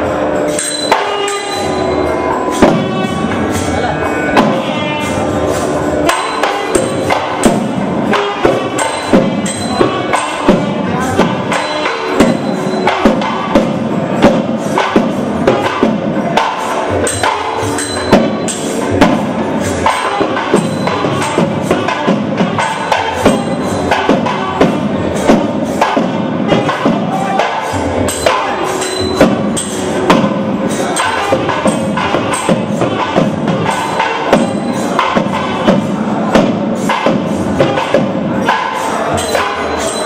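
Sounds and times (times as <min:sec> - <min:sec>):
sharp drum strokes: 0:00.0 - 0:40.0
wavering held melody: 0:00.0 - 0:40.0.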